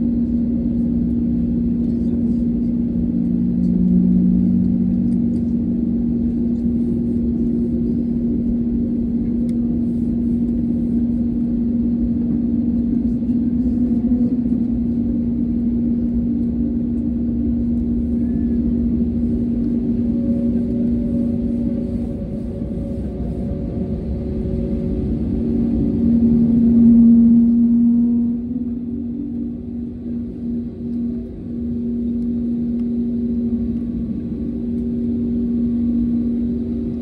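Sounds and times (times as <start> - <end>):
aircraft cabin engine hum: 0.0 - 37.0.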